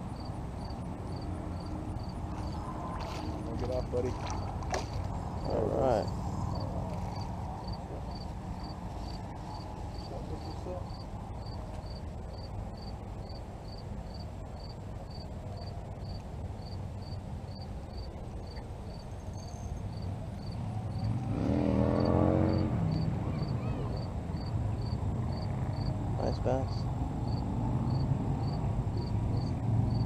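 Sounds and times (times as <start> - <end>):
cricket chirping: 0.0 - 30.0
low outdoor rumble: 0.0 - 30.0.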